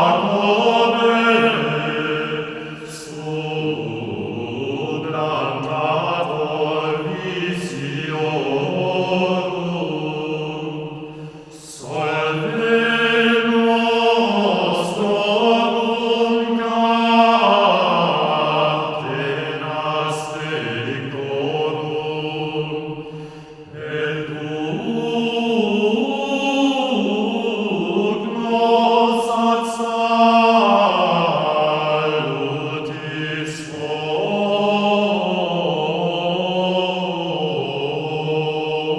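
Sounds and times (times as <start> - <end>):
voices chanting sustained notes: 0.0 - 38.9.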